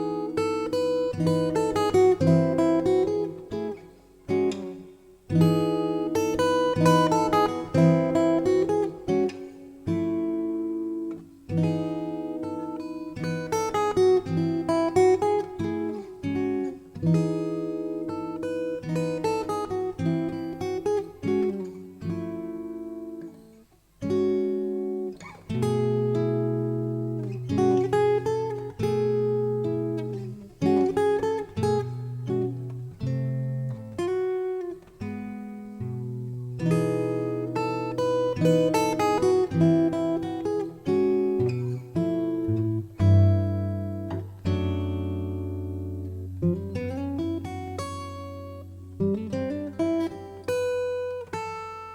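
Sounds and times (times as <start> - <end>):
acoustic guitar melody: 0.0 - 51.9.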